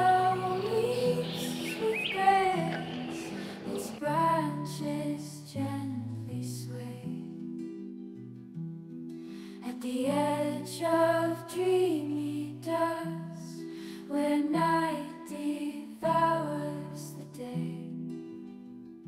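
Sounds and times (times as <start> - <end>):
slow gentle background music: 0.0 - 19.0.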